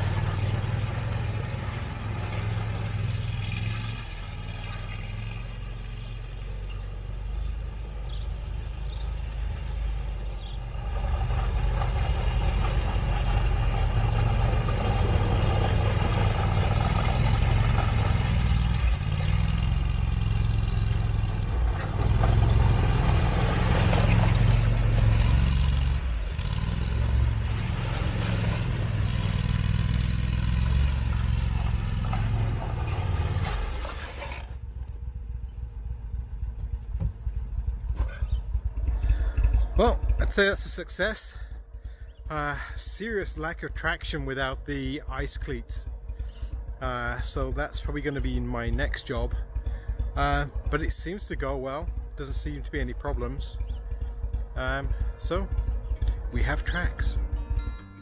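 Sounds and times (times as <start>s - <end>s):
tracked vehicle engine running: 0.0s - 58.0s
tracks driving over packed snow: 0.0s - 58.0s.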